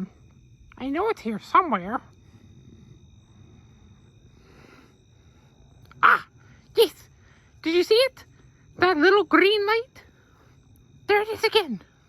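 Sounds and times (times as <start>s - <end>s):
low rumble and hiss: 0.0s - 12.0s.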